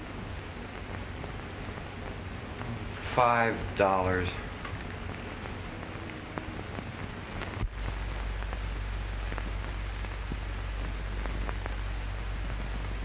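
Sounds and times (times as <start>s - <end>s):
crackles: 0.0s - 13.0s
film soundtrack hiss: 0.0s - 13.0s
low hum: 0.0s - 13.0s.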